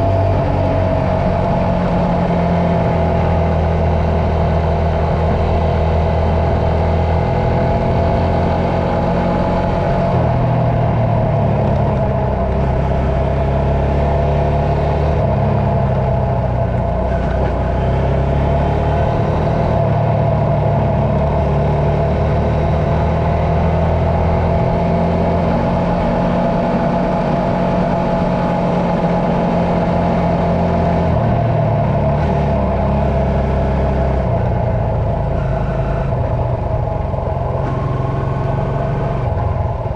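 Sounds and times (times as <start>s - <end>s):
motor engine revving: 0.0s - 39.9s.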